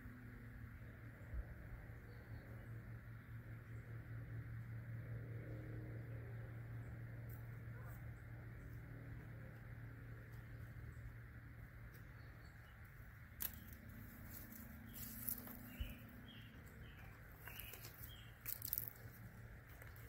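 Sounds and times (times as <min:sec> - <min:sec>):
faint outdoor ambience: 0:00.0 - 0:20.0.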